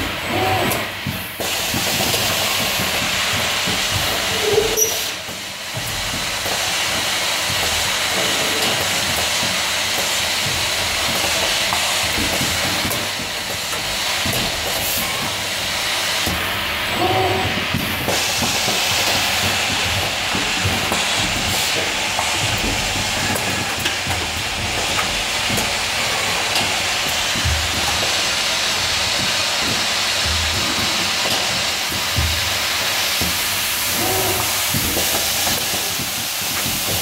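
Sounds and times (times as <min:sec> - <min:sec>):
production line hissing: 0:00.0 - 0:37.0.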